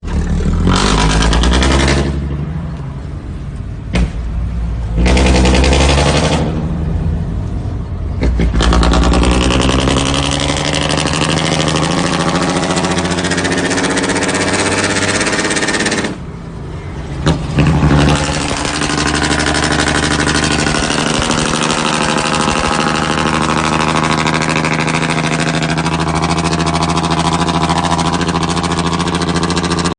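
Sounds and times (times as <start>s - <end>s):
diesel truck engine revving: 0.0s - 3.0s, 4.7s - 29.9s.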